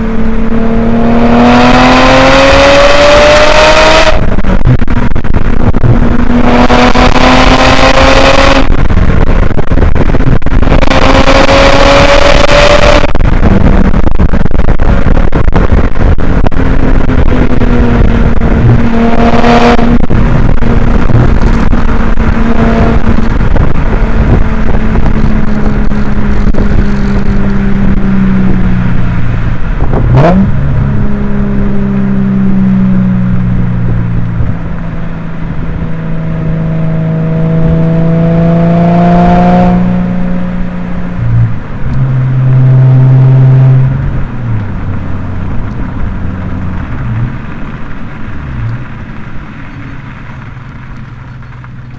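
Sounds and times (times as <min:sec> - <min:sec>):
car engine revving: 0:00.0 - 0:51.9
wind noise on microphone: 0:00.0 - 0:51.9.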